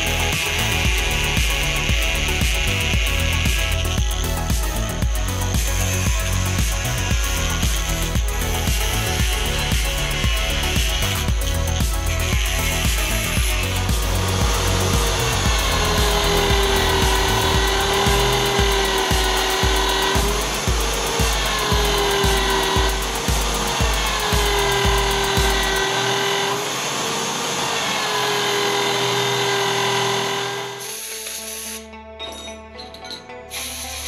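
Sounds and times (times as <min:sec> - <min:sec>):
sanding disc motor whining: 0:00.0 - 0:31.9
background music with steady beat: 0:00.0 - 0:34.0.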